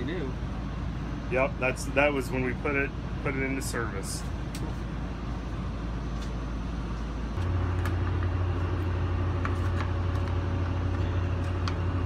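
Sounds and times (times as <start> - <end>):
deeper machine hum: 0.0 - 12.0
locomotive low hum: 0.0 - 12.0.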